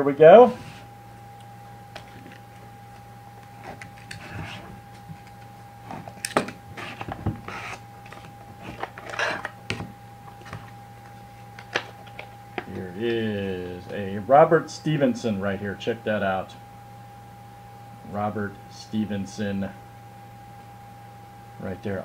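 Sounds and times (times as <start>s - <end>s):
faint steady whine: 0.0s - 22.0s
low hum: 0.0s - 22.0s.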